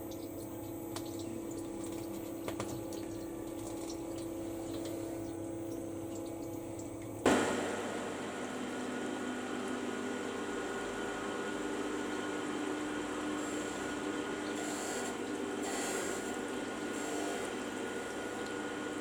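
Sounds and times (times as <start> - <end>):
milling machine hum and whine: 0.0 - 19.0.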